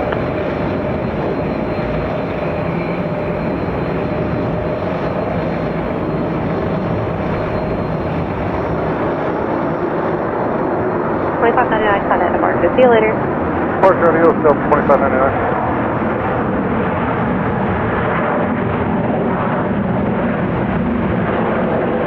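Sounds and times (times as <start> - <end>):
faint jet engine whine: 0.0 - 22.0
jet engines rumbling: 0.0 - 22.0.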